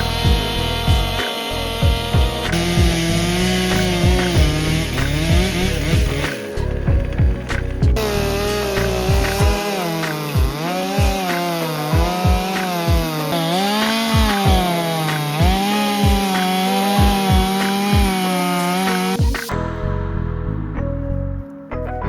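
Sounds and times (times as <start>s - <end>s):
chainsaw cutting a log: 0.0s - 19.5s.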